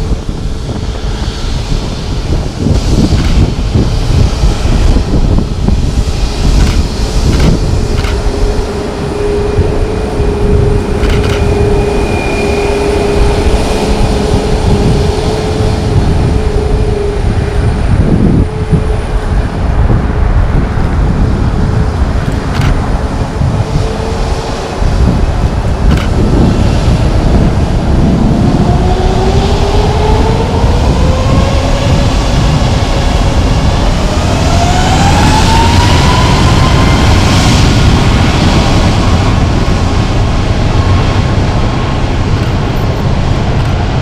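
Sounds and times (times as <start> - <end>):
jet engines rumbling and whining: 0.0 - 44.0.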